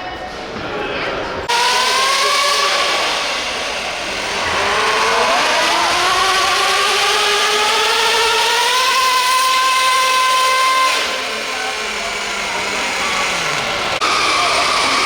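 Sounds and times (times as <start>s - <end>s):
rc truck motor whine: 1.5s - 15.0s.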